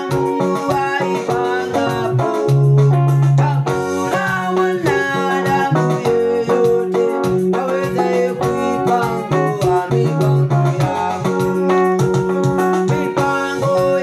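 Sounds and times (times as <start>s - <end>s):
electric keyboard playing: 0.0s - 14.0s.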